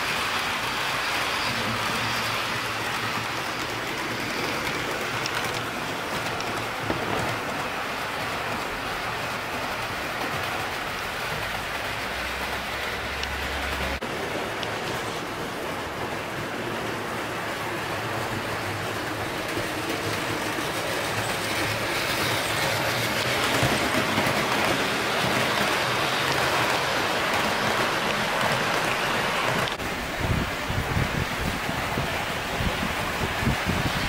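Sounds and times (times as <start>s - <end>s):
model train wheels rattling on rails: 0.0s - 34.0s.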